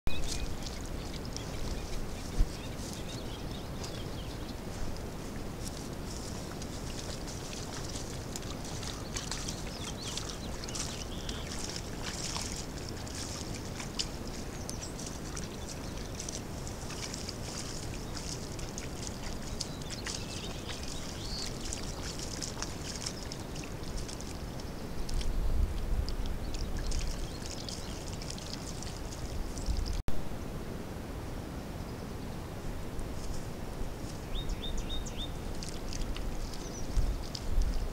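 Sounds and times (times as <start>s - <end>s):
water splashes and drips: 0.1s - 30.0s, 34.0s - 37.9s.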